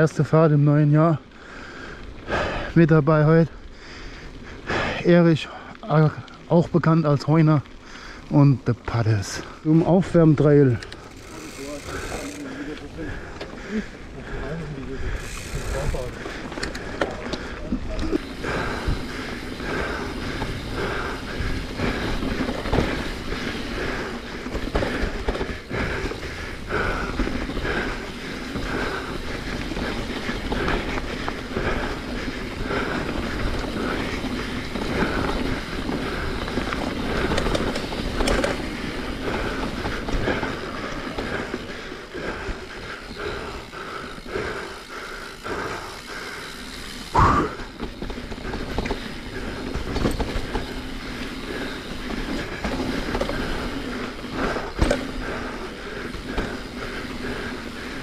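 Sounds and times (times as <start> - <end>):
bike tyres rolling over dirt: 0.0 - 58.0
bike chain clattering: 9.4 - 58.0.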